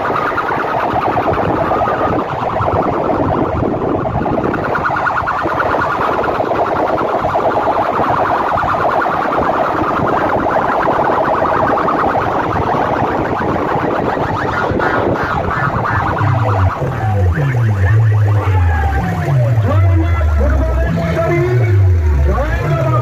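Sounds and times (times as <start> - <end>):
warbling electronic siren effect: 0.0 - 23.0.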